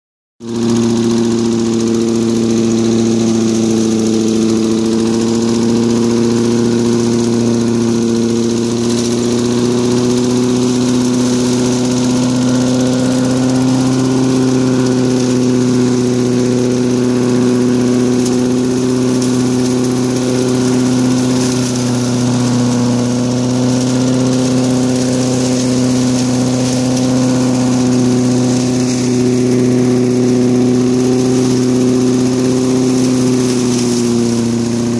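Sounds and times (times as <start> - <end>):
lawnmower engine running: 0.4 - 34.9.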